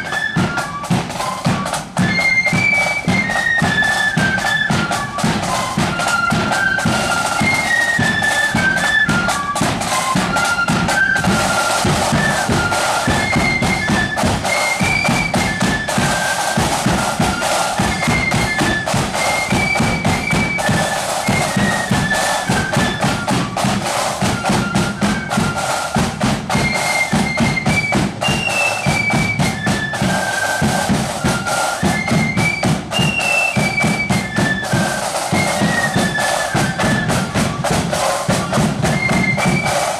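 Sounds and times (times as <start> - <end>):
flute melody: 0.0 - 39.9
snare and bass drumming: 0.0 - 39.9.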